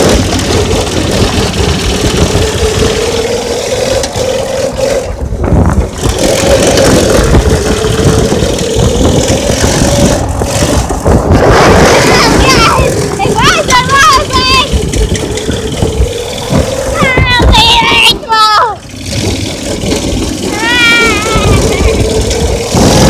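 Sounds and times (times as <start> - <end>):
go-kart engine running: 0.0 - 23.0
wind and road noise: 0.0 - 23.0.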